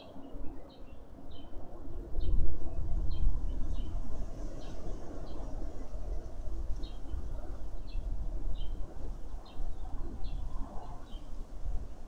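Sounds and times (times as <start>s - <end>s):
wind buffeting microphone: 1.0s - 12.0s.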